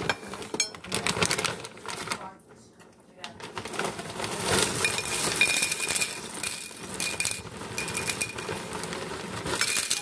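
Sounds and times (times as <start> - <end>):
small hard objects clinking: 0.0 - 2.2, 3.4 - 10.0.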